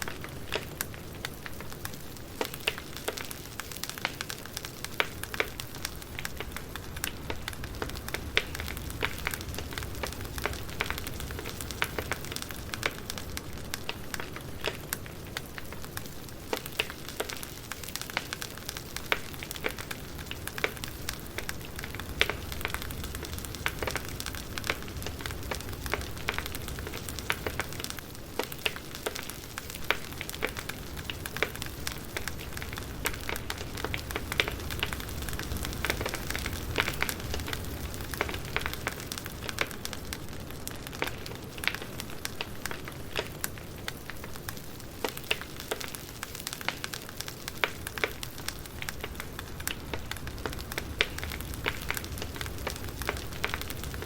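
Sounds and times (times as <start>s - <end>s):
firewood crackling: 0.0s - 54.0s.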